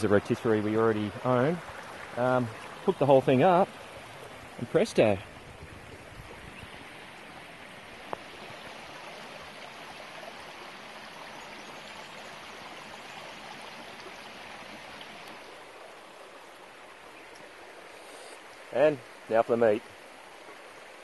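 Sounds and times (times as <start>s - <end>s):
creek water running over rocks: 0.0s - 21.0s.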